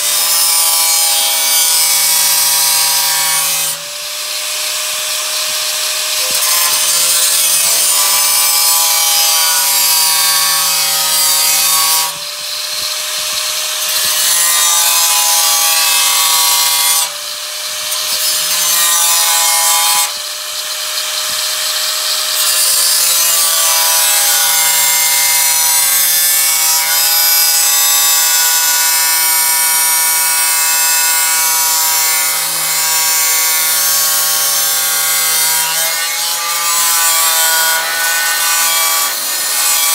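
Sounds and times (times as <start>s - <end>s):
power tool cutting steel: 0.0s - 39.9s.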